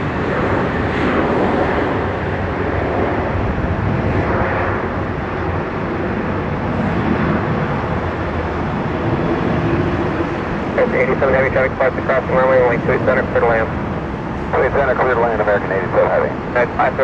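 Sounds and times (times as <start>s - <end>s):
jet engine rushing: 0.0s - 17.0s.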